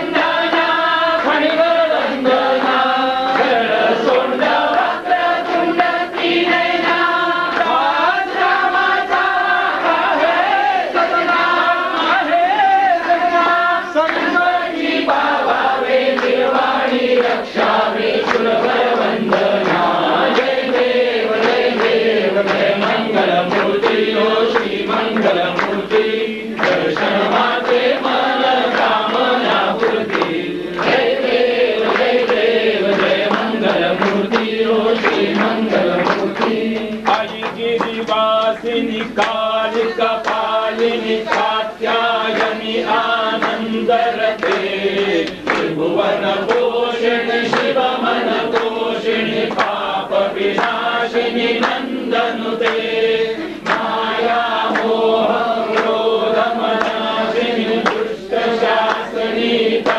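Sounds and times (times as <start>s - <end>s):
group chanting a hymn: 0.0s - 59.9s.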